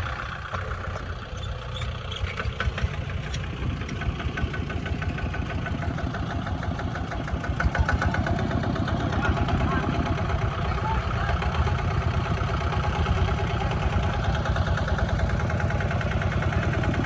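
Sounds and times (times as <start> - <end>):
engine running with ticking: 0.0 - 17.0.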